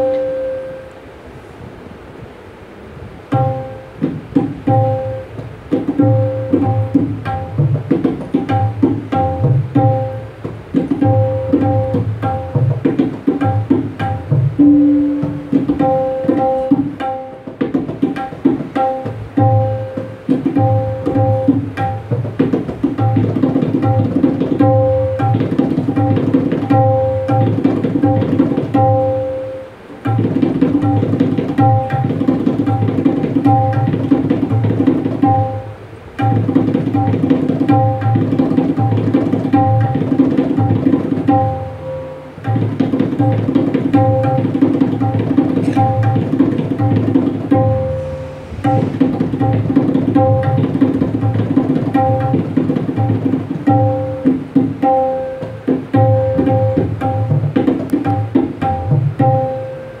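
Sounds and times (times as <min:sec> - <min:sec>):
tabla solo: 0:00.0 - 0:00.9, 0:03.2 - 1:00.0.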